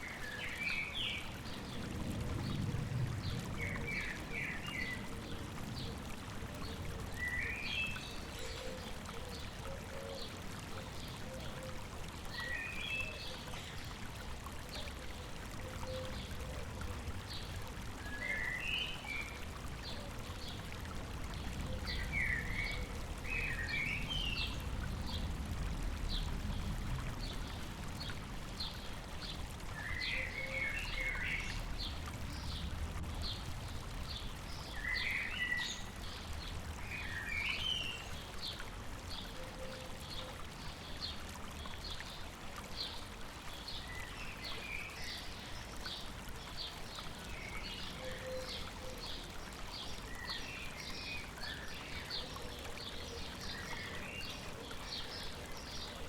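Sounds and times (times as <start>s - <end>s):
flowing river water: 0.0s - 56.0s.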